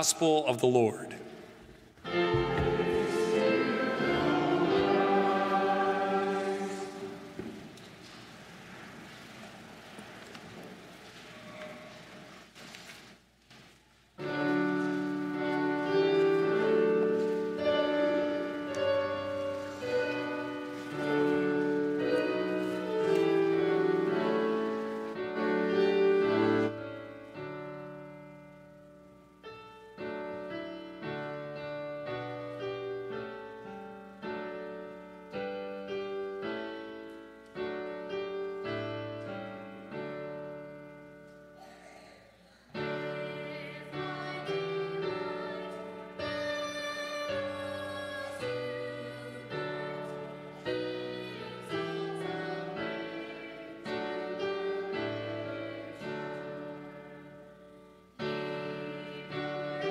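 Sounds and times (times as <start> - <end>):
keyboard instrument playing hymn: 0.0 - 7.7, 14.2 - 41.6, 42.8 - 59.9.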